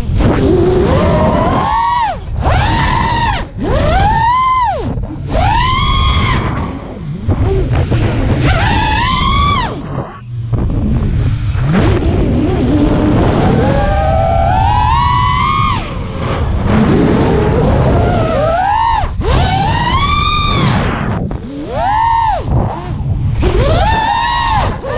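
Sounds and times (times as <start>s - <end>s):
low rumble of wind: 0.0s - 24.9s
quadcopter motors whining: 0.0s - 24.9s.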